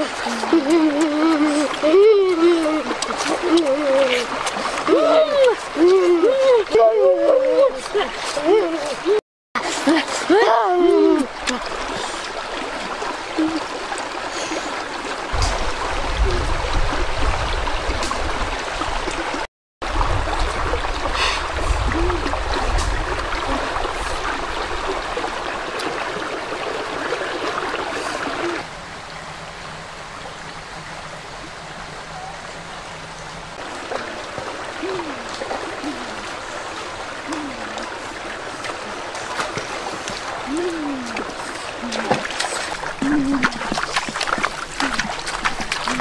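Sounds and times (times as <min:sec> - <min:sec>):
stream water rushing: 0:00.0 - 0:46.0.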